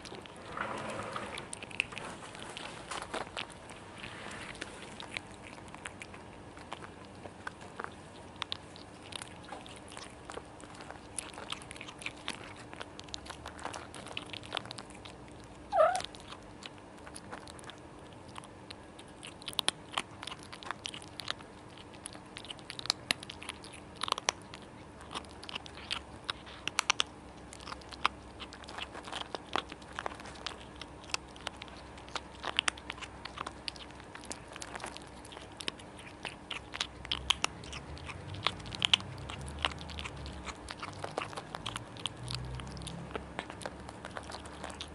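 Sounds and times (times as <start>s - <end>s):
kittens crunching kibble: 0.0s - 44.9s.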